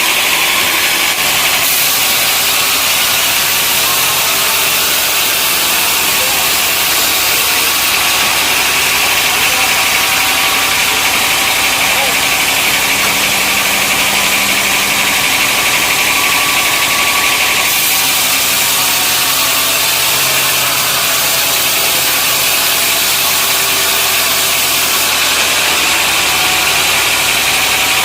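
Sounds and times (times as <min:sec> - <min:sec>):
machinery engine hum: 0:00.0 - 0:28.0
loud even hiss: 0:00.1 - 0:28.0.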